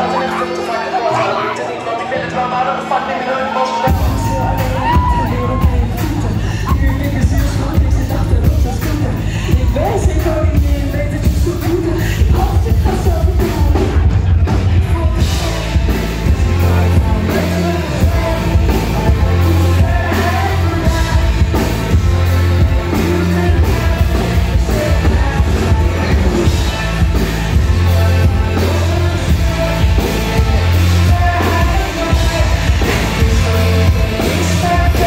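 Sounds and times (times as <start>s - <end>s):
drum kit: 3.8s - 35.0s
heavy bass: 3.9s - 35.0s.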